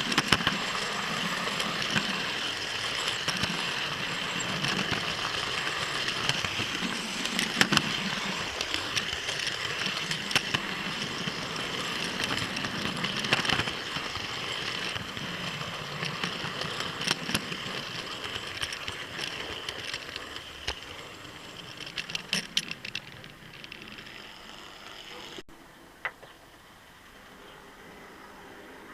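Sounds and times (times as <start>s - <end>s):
sharp clicks of train: 0.0s - 25.2s
model train motor whir: 0.0s - 25.4s.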